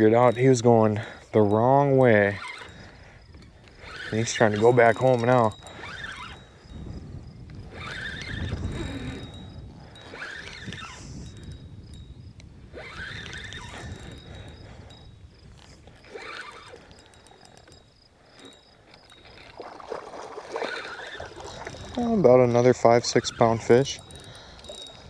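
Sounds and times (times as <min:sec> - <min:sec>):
fishing reel spinning: 0:00.0 - 0:25.0.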